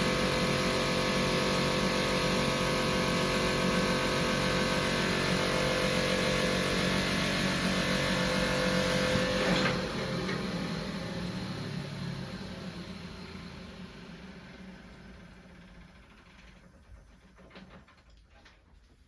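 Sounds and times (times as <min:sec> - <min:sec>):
washing machine motor whine: 0:00.0 - 0:17.0.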